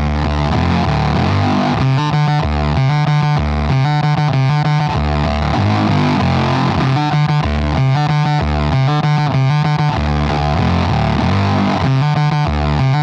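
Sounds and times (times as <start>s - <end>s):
fuzzed electric guitar riff: 0.0s - 13.0s.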